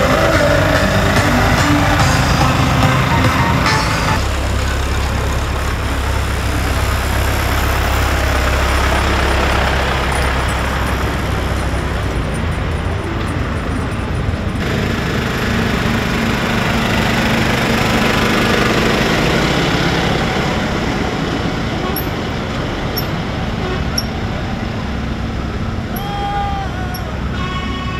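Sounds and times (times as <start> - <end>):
steady engine hum: 0.0 - 27.9
tractor engines passing: 0.0 - 27.9.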